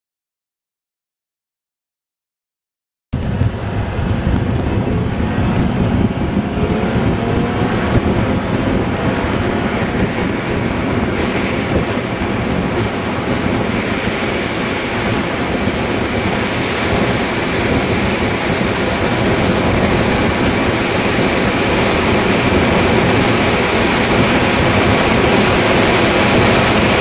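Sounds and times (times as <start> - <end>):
road and engine noise: 3.2 - 27.0
wind buffeting microphone: 3.2 - 27.0.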